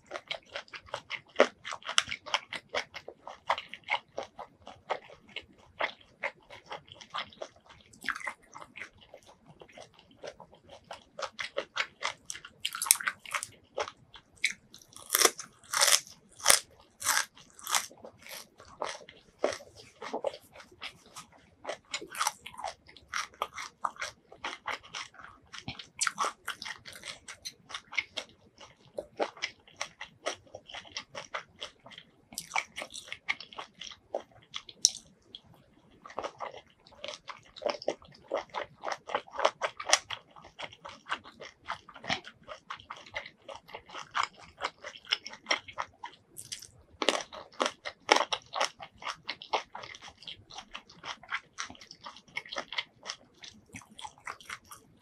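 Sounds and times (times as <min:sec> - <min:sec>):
crunchy wet chewing: 0:00.0 - 0:55.0.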